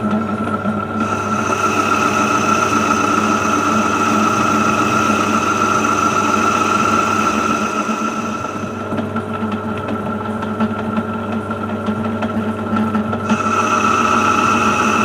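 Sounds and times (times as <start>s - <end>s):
high-pitched lathe whine: 0.0s - 15.0s
metal lathe humming: 0.0s - 15.0s.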